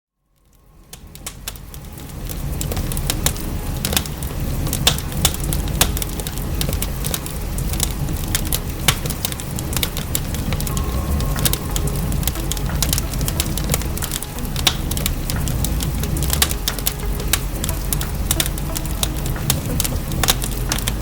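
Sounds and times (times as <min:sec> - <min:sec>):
wood fire crackling and popping: 0:00.3 - 0:21.0
rain rumble and hiss: 0:00.4 - 0:21.0.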